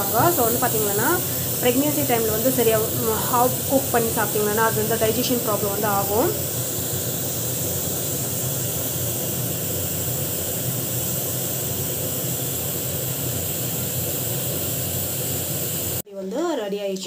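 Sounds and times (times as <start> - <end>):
steam hissing from pressure cooker: 0.0 - 16.0.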